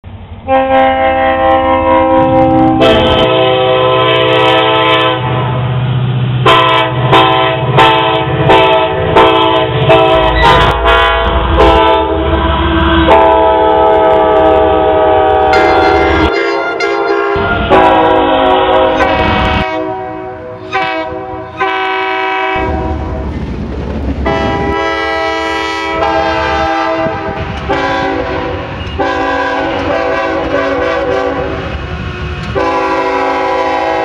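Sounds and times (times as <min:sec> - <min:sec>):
locomotive air horns: 0:00.5 - 0:05.6, 0:06.4 - 0:23.2, 0:24.2 - 0:34.0.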